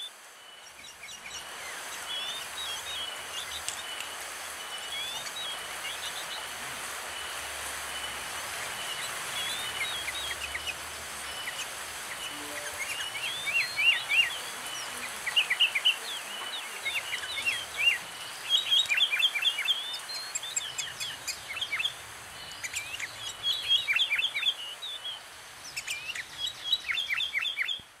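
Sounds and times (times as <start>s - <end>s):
bulbuls chirping: 0.0s - 27.8s.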